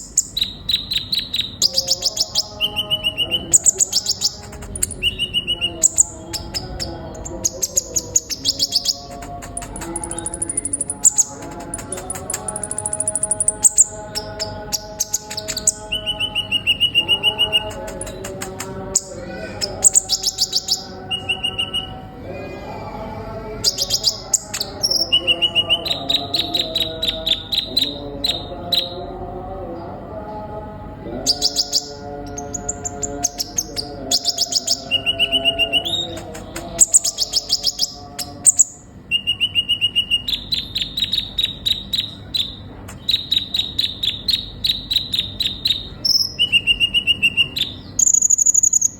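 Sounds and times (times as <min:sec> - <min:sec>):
bird chirping and trilling: 0:00.0 - 0:22.0, 0:22.8 - 0:29.0, 0:31.2 - 0:48.9.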